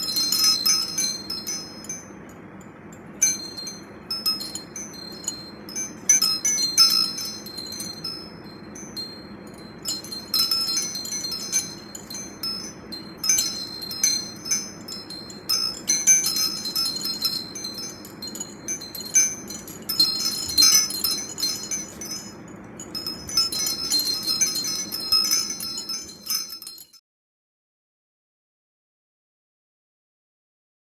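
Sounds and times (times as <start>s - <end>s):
metal wind chimes tinkling: 0.0s - 27.0s.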